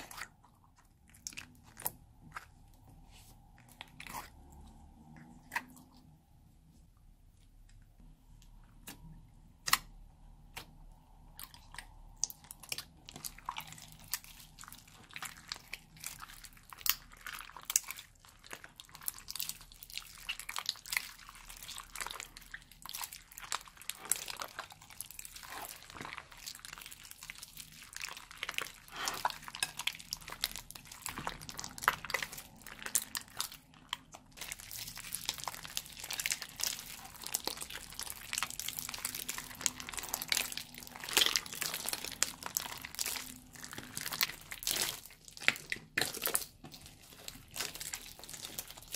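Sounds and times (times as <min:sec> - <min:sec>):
hands squeezing wet slime: 0:00.0 - 0:06.2, 0:08.4 - 0:48.9.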